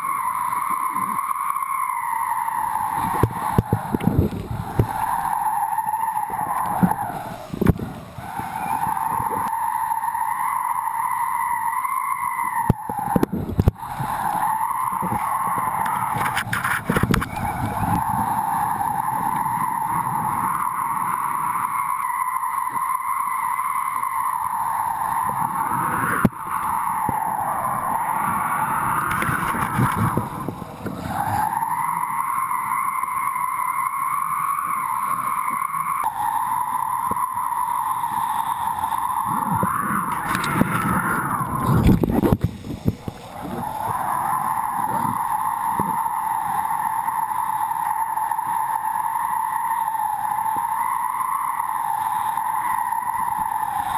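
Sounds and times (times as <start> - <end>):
water rushing under board: 0.0 - 53.9
wind on microphone: 2.0 - 33.1, 34.8 - 53.9.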